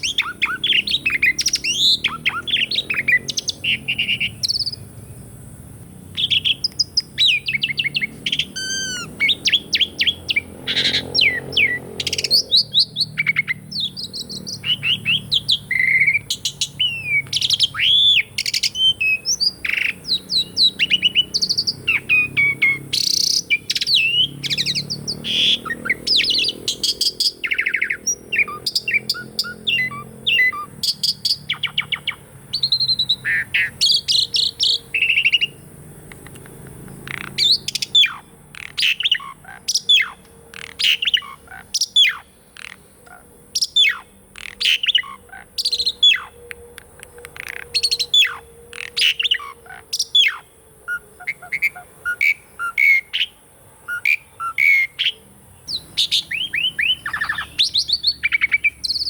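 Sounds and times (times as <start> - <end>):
starling singing whistles and chirps: 0.0 - 5.0, 6.1 - 59.0.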